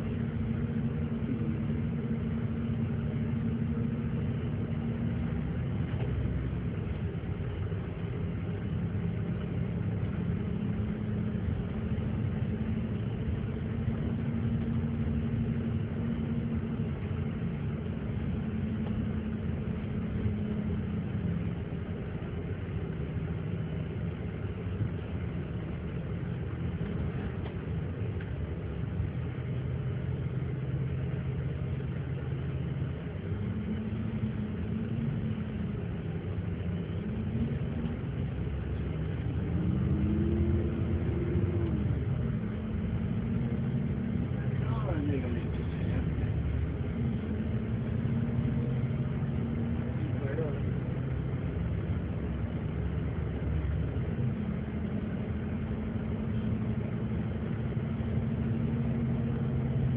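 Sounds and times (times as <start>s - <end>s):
road noise: 0.0s - 59.9s
vehicle engine humming: 0.0s - 59.9s.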